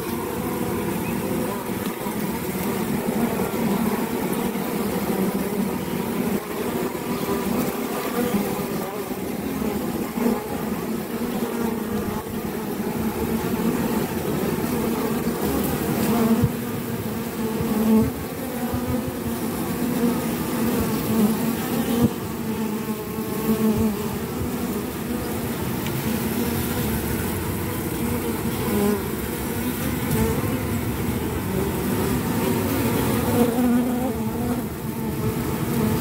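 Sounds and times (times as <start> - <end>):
honey bees buzzing: 0.0 - 36.0.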